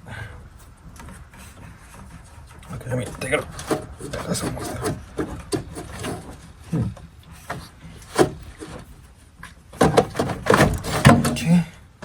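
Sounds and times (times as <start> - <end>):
rubbing scraping and knocking: 0.5 - 11.6.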